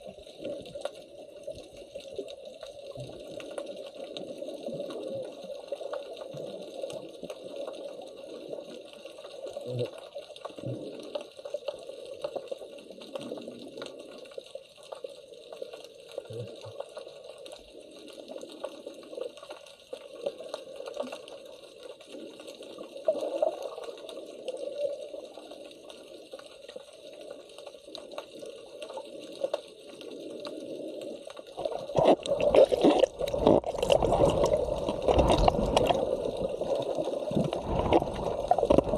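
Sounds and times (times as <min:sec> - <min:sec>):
muffled underwater water noise: 0:00.0 - 0:38.9
splashing and bubbling: 0:00.0 - 0:38.9.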